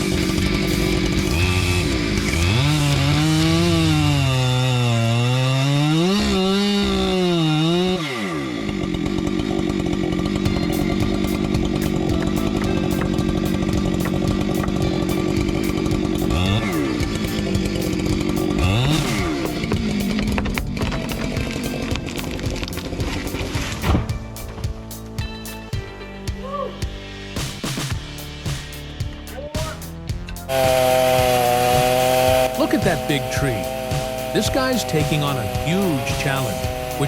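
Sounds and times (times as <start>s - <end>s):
chainsaw cutting wood: 0.0s - 25.4s, 27.4s - 37.0s.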